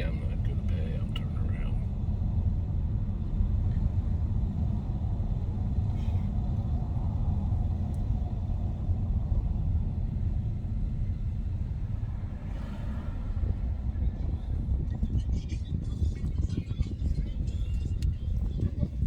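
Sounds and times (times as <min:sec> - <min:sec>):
car interior road rumble: 0:00.0 - 0:19.0.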